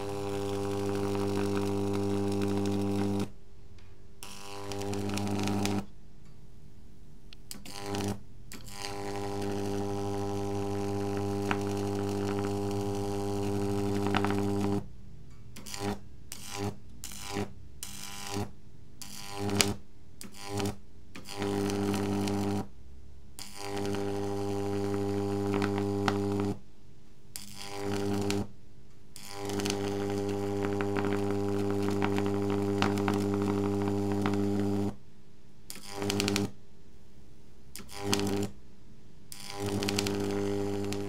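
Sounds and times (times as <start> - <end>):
high-voltage arc buzzing and crackling: 0.0 - 3.4, 4.2 - 5.9, 7.5 - 14.9, 15.6 - 22.7, 23.4 - 26.6, 27.3 - 28.6, 29.2 - 35.0, 35.7 - 36.6, 37.7 - 38.6, 39.3 - 41.0.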